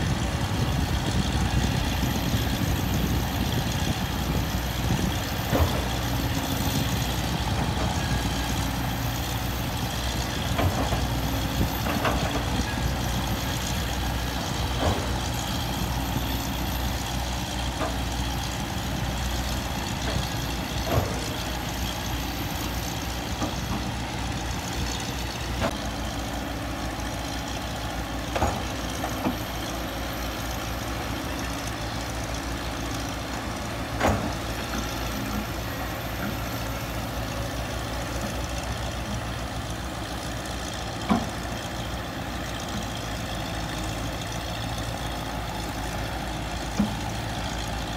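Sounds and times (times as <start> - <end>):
excavator diesel engine rumbling: 0.0 - 47.9.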